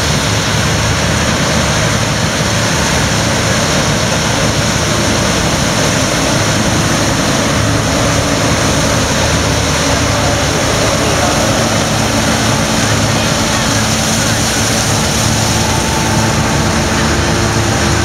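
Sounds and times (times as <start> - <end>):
combine harvester engine and machinery: 0.0 - 18.0.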